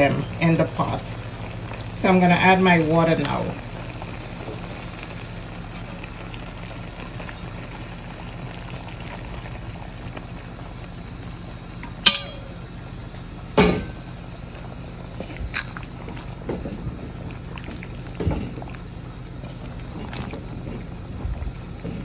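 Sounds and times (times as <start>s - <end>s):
stew bubbling: 0.0s - 22.0s
water pouring into hot pan: 3.3s - 22.0s.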